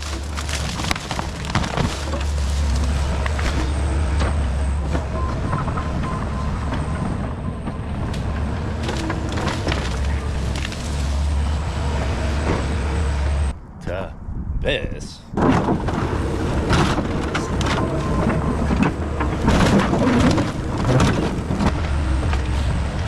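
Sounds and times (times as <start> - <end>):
heavy diesel equipment running: 0.0 - 13.5, 15.5 - 23.0
metal and debris clanking: 0.0 - 13.5, 15.4 - 23.0.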